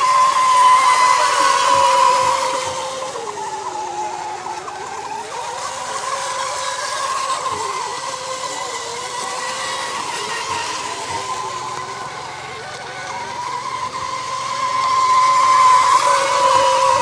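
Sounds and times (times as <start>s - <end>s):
model boat motors whining: 0.0s - 17.0s.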